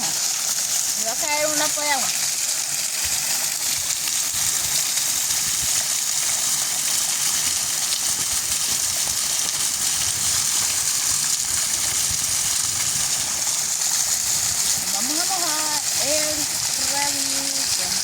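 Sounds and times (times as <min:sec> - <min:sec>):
small waterfall pouring: 0:00.0 - 0:18.0.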